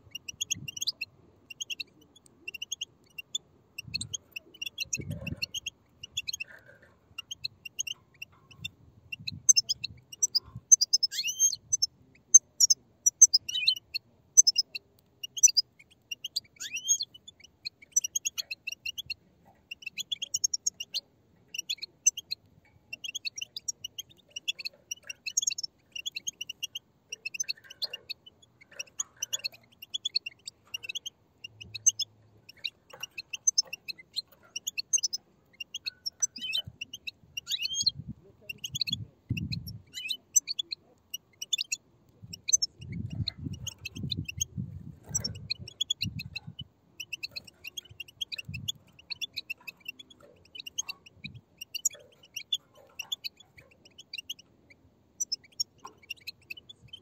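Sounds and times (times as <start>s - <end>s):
bird chicks chirping: 0.0s - 57.0s.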